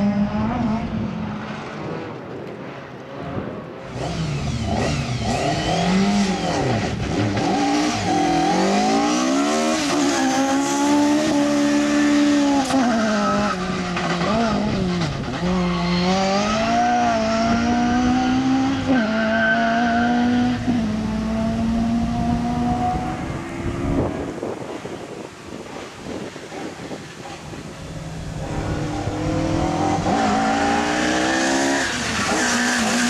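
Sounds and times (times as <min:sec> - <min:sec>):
rally car engine revving: 0:03.2 - 0:24.6, 0:26.2 - 0:33.0.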